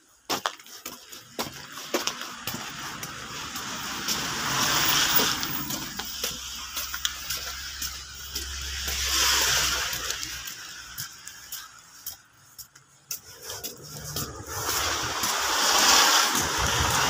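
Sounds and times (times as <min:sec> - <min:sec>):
tyres hissing through wet snow: 0:00.7 - 0:12.5, 0:13.2 - 0:17.0
low engine rumble: 0:01.2 - 0:17.0.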